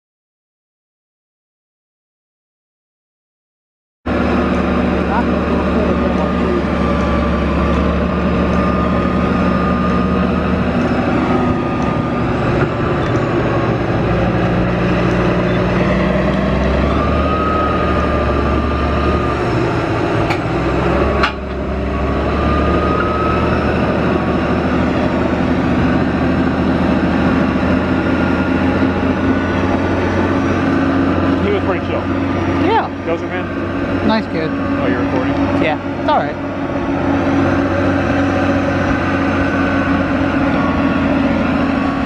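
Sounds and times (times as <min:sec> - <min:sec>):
bulldozer diesel engine running: 0:04.1 - 0:42.0.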